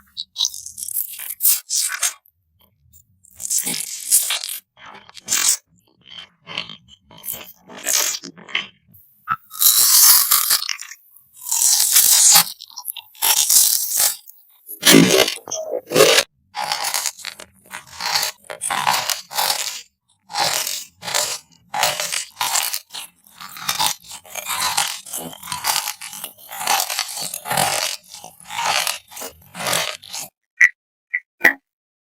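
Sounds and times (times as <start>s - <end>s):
crunchy bites and chewing: 0.1s - 2.2s, 3.3s - 30.3s.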